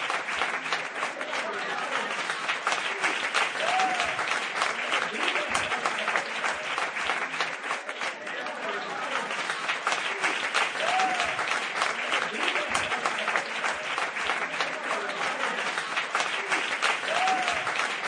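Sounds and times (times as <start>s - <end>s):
crowd clapping: 0.0s - 18.0s.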